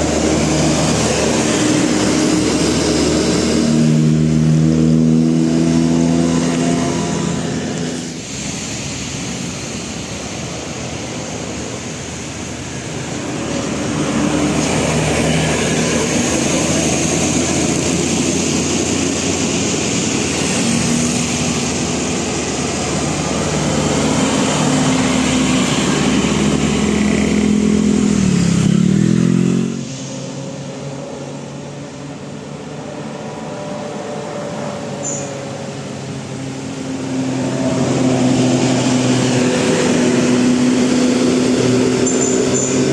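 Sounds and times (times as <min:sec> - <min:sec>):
tyre and road noise: 0:00.0 - 0:42.9
vehicles passing on road: 0:00.0 - 0:42.9.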